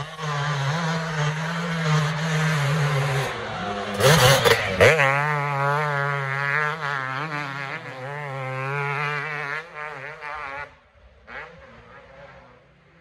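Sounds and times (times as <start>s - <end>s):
motocross engine passing: 0.0s - 13.0s.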